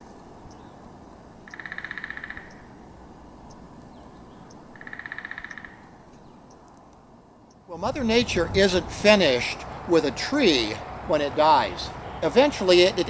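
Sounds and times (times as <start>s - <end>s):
faint outdoor background hiss: 0.0s - 13.0s
songbird trills: 0.0s - 13.0s.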